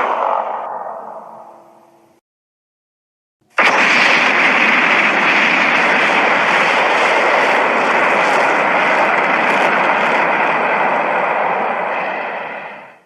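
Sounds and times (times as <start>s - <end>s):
loud steady rushing blast: 0.0s - 2.2s, 3.5s - 13.0s.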